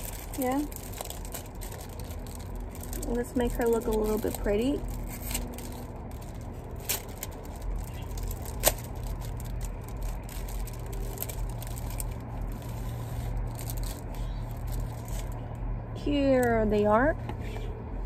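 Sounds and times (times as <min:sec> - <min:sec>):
plastic sticker sheet crackling: 0:00.0 - 0:15.4
steady low hum: 0:00.0 - 0:18.0.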